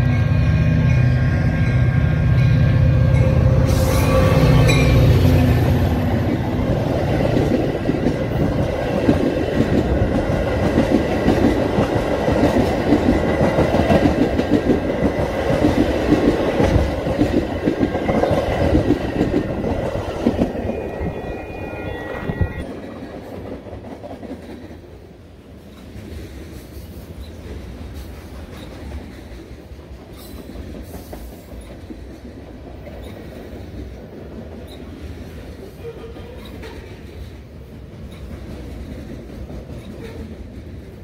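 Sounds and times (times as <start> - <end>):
train rolling past: 0.0 - 41.0
clickety-clack of train wheels: 4.6 - 21.1, 22.6 - 41.0.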